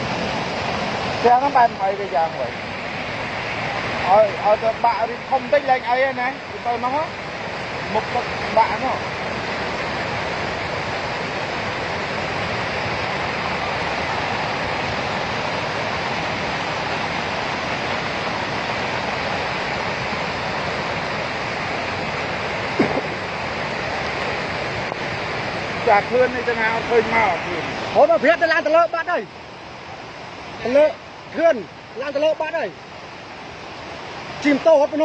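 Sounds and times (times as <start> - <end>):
floodwater rushing: 0.0 - 35.0
heavy rain: 0.0 - 35.0.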